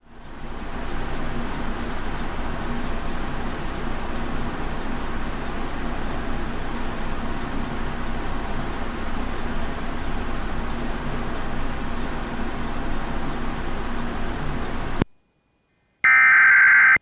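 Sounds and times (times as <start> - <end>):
steady hiss and rumble: 0.1 - 15.0.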